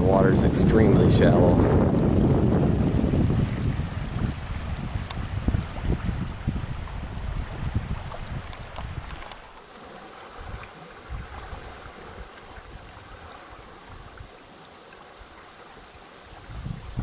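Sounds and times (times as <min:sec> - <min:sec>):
wind buffeting microphone: 0:00.0 - 0:09.4, 0:10.3 - 0:14.4, 0:16.3 - 0:17.0
small waves lapping on rocks: 0:02.1 - 0:16.5.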